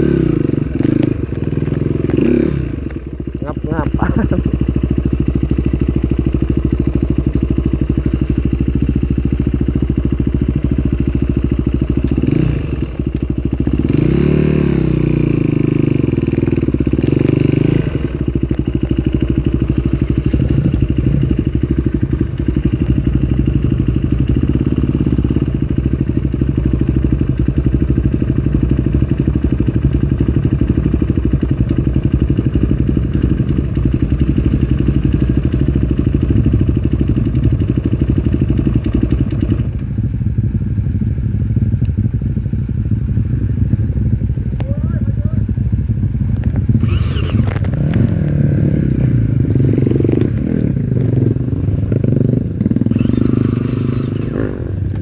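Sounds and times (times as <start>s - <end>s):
dirt bike engine revving: 0.0s - 39.7s, 42.8s - 55.0s.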